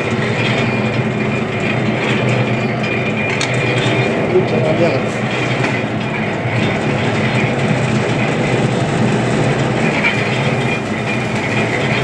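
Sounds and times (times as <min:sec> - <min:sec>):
sheet rolling machine rattling: 0:00.0 - 0:12.0.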